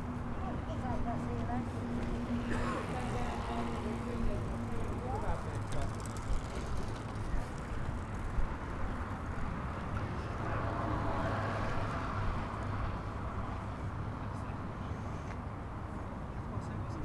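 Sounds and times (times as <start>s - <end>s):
low traffic rumble: 0.0s - 17.0s
vehicle passing: 0.4s - 14.2s.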